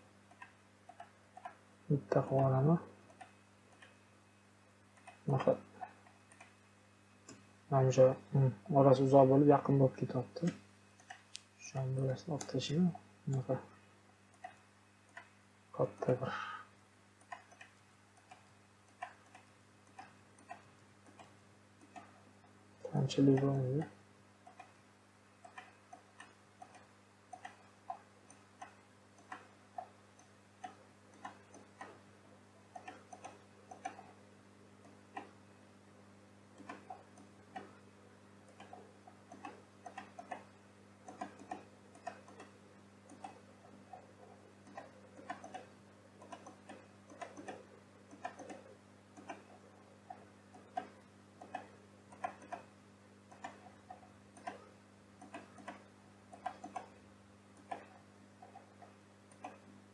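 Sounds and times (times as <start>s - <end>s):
steady low hum: 0.0s - 59.9s
computer mouse clicking: 0.3s - 4.0s, 4.9s - 6.6s, 10.4s - 13.6s, 14.3s - 16.2s, 17.2s - 22.3s, 22.9s - 24.8s, 25.4s - 32.0s, 32.7s - 34.2s, 34.8s - 35.4s, 36.5s - 37.8s, 38.4s - 52.7s, 53.3s - 59.7s.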